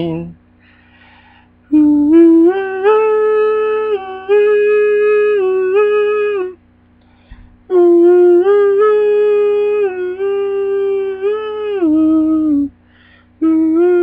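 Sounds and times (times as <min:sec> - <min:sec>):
person singing a cappella: 0:01.7 - 0:06.6, 0:07.6 - 0:14.0.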